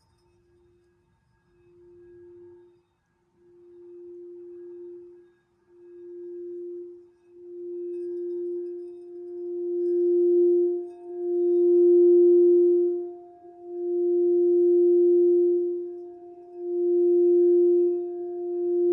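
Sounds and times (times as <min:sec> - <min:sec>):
singing bowl tone: 0:00.0 - 0:18.9.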